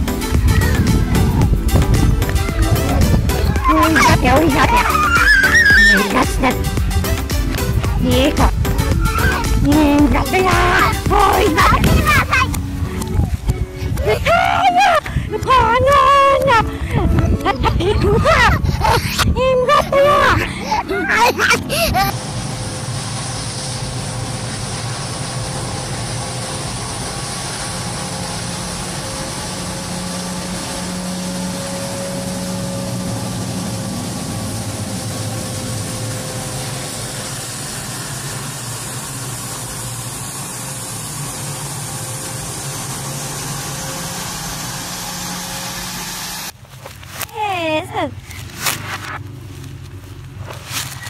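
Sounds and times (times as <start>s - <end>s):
jet engines running with whine: 0.0s - 51.0s.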